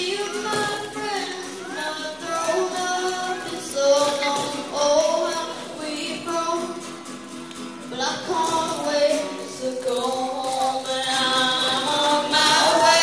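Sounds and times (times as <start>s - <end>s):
boy singing into a microphone: 0.0s - 7.1s, 7.9s - 13.0s
acoustic guitar: 0.0s - 13.0s.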